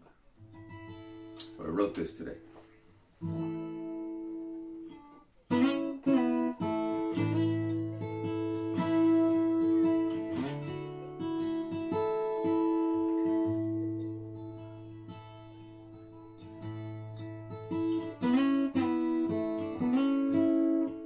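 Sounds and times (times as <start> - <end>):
acoustic guitar strumming: 0.4 - 21.0.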